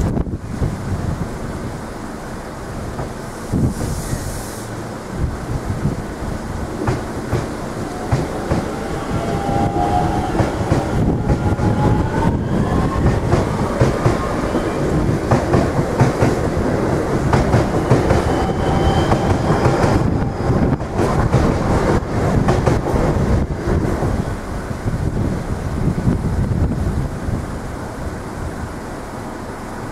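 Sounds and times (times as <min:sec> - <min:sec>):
train rumbling: 0:00.0 - 0:29.9.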